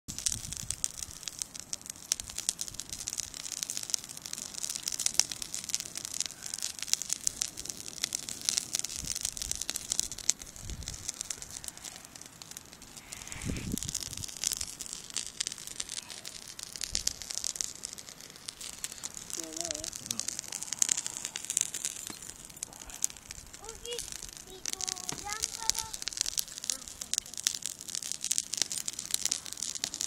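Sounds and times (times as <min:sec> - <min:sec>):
bonfire crackling and popping: 0:00.1 - 0:30.0.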